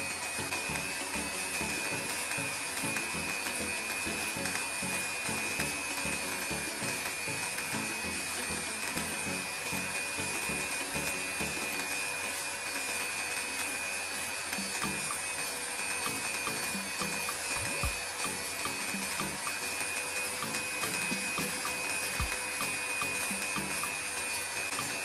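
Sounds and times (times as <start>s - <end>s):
electric drill whining: 0.0s - 25.0s.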